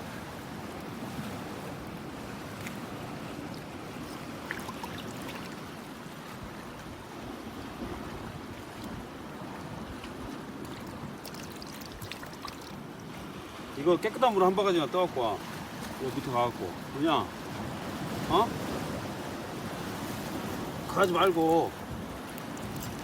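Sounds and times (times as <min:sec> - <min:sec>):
seawater rushing: 0:00.0 - 0:23.0
wind: 0:00.0 - 0:23.0.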